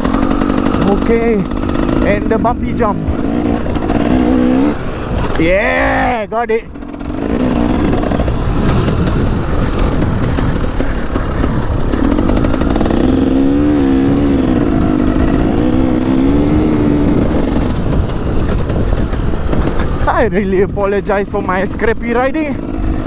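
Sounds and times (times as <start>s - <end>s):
dirt bike engine revving: 0.0s - 20.8s, 21.4s - 23.0s
steady rushing noise: 0.0s - 23.0s.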